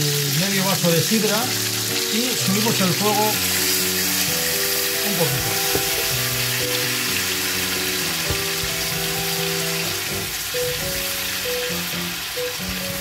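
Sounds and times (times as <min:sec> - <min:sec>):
background music of held notes: 0:00.0 - 0:13.0
meat sizzling in a frying pan: 0:00.0 - 0:13.0.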